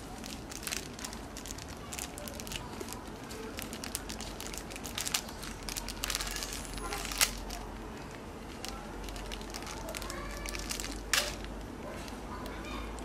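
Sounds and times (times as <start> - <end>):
snack packet crinkling: 0.0 - 13.0.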